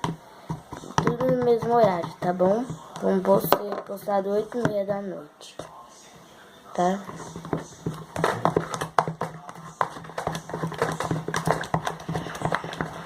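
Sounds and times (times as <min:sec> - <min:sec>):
spatula stirring sticky glue: 0:00.0 - 0:05.7, 0:06.8 - 0:13.0.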